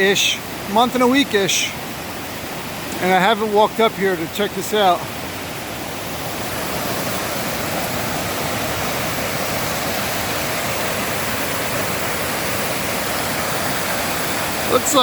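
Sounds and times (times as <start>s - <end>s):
stream water rushing down cascade: 0.0s - 15.0s.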